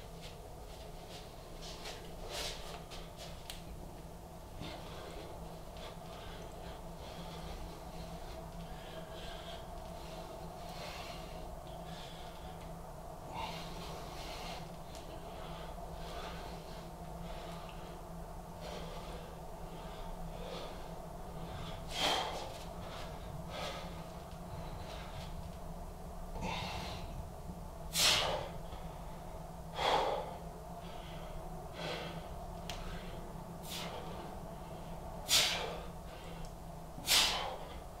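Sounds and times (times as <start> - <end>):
man breathing hard: 4.4 - 25.6, 26.3 - 38.0.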